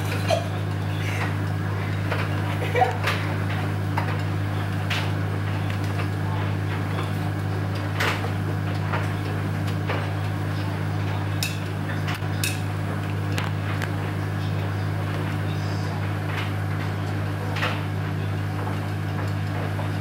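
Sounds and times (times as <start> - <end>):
washing machine drum humming: 0.0 - 20.0.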